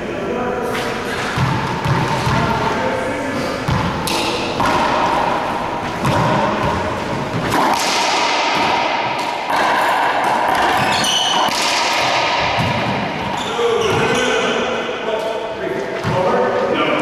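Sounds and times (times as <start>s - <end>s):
ball hitting walls: 0.7s - 14.6s
racquets striking ball: 0.7s - 15.0s.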